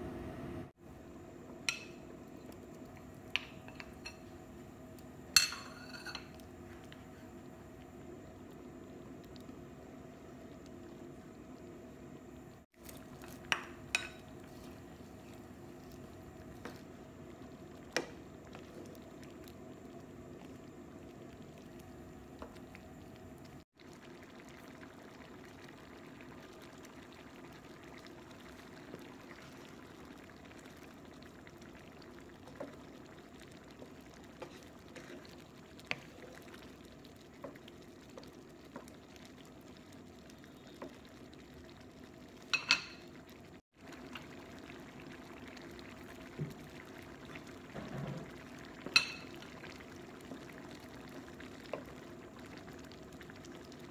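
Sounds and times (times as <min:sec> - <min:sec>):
faint steady hum: 0:00.0 - 0:53.9
soup bubbling: 0:00.7 - 0:53.9.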